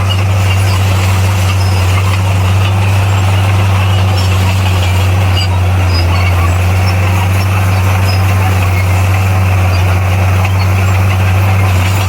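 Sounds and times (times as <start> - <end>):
bulldozer diesel engine droning: 0.0 - 12.0.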